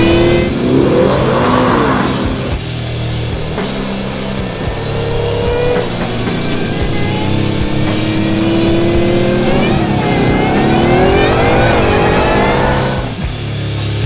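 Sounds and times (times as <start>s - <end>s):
engine accelerating hard: 0.0s - 14.0s.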